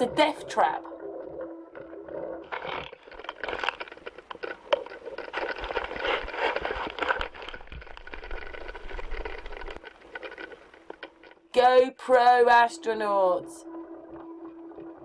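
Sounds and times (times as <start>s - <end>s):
crackling and clicking: 0.7s - 12.8s.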